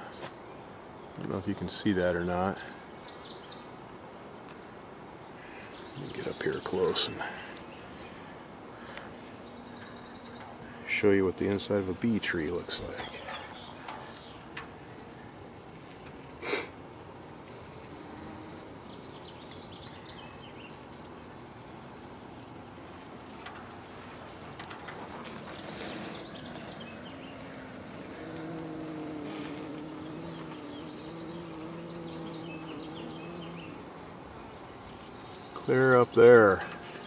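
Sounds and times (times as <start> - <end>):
bees buzzing: 5.4 - 37.0.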